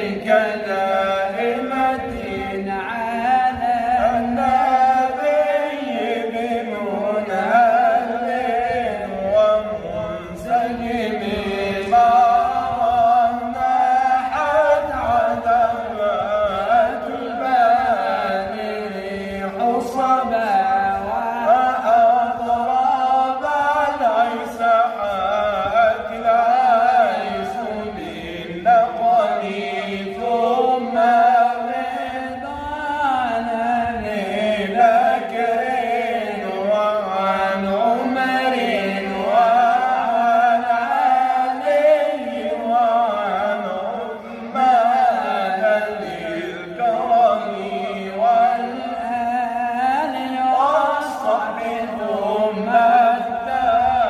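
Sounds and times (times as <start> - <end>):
man chanting devotional poetry: 0.0 - 54.0.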